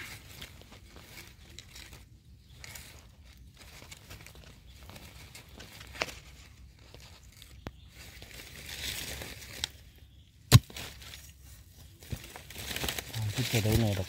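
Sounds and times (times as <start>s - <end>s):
dry leaves and soil rustling: 0.0s - 14.0s.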